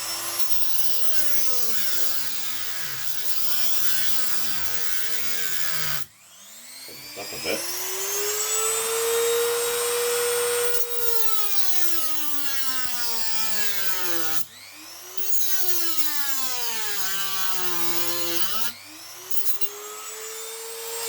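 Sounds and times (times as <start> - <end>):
power tool cutting metal: 0.0 - 21.0.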